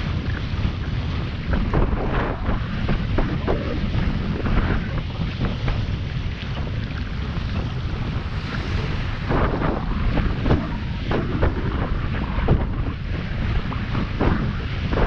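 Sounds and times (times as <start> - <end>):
bow wave splashing against hull: 0.0 - 15.0
water rushing along hull: 0.0 - 15.0
wind buffeting microphone: 0.0 - 15.0.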